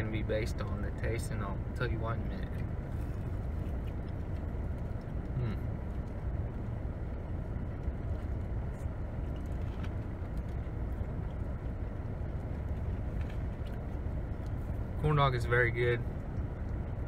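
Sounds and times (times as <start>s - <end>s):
car idling: 0.0s - 17.0s.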